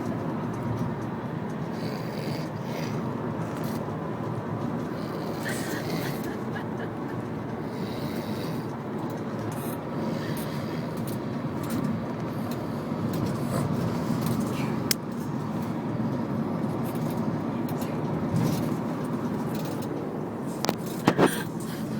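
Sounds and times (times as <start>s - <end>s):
engine and road noise inside car: 0.0s - 21.9s.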